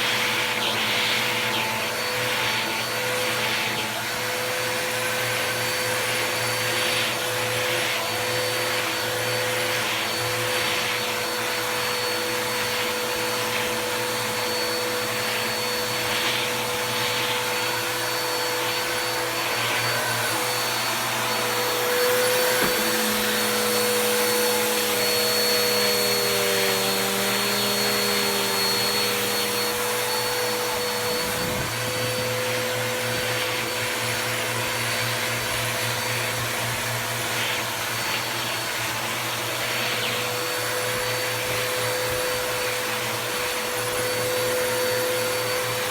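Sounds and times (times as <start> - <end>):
vacuum cleaner motor whine: 0.0 - 45.9.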